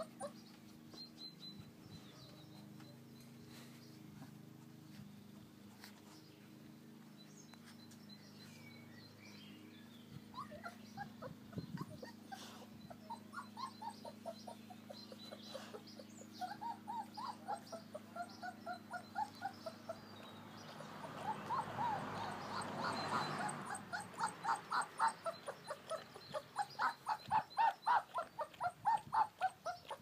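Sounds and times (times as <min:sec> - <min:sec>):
puppies whimpering and yipping: 0:00.0 - 0:04.5, 0:10.1 - 0:30.0.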